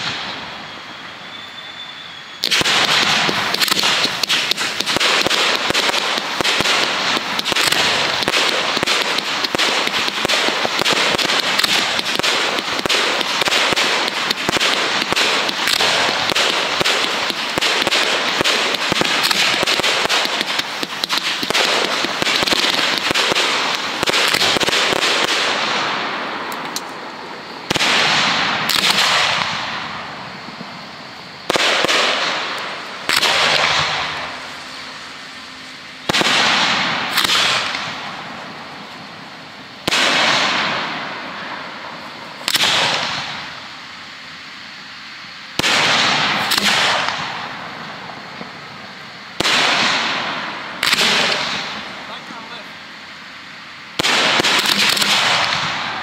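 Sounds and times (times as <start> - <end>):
fireworks bangs and crackling: 0.0 - 56.0
loud firework bursts: 0.0 - 56.0.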